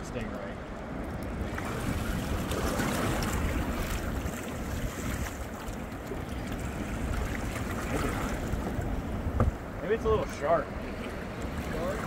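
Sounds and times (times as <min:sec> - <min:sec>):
choppy water splashing: 0:00.0 - 0:12.0
wind buffeting microphone: 0:00.0 - 0:12.0.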